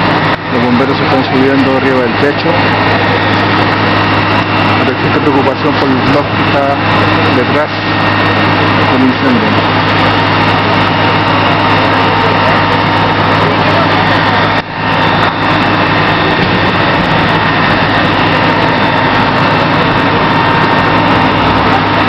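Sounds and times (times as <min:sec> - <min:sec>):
fire truck engine humming: 0:00.0 - 0:22.0.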